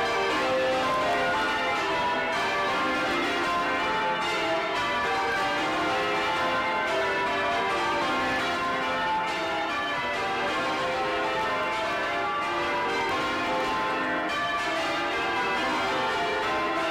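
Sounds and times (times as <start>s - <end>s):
church bells ringing: 0.0s - 16.9s.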